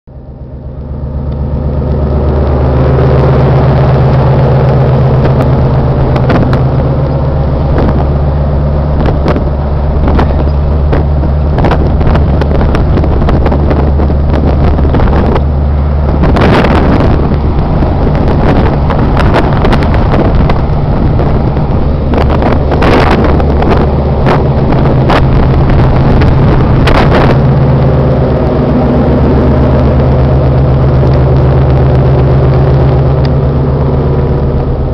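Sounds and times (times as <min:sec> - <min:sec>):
tugboat engine drone: 0:00.1 - 0:34.9.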